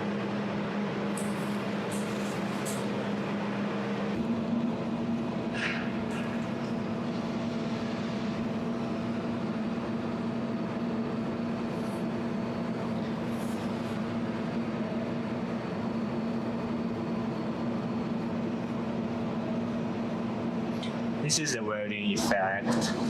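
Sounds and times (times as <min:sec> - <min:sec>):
laser welder electrical hum: 0:00.0 - 0:23.0.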